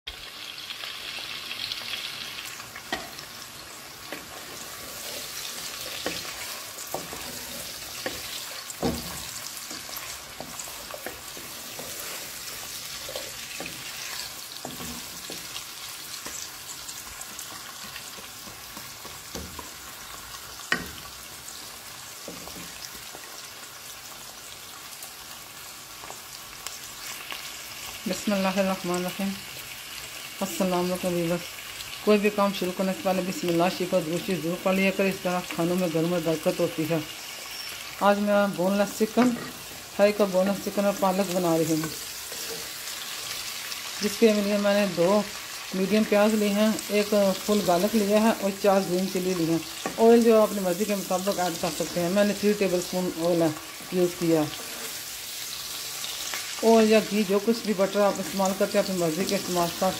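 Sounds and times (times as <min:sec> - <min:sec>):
onions sizzling in oil: 0:00.1 - 0:59.9.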